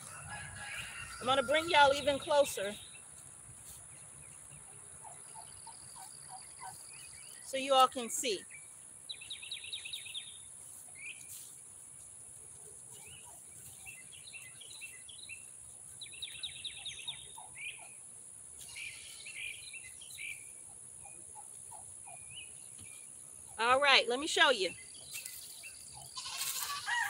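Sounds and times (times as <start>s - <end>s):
birds chirping and trilling: 0.0s - 11.6s, 12.3s - 27.0s.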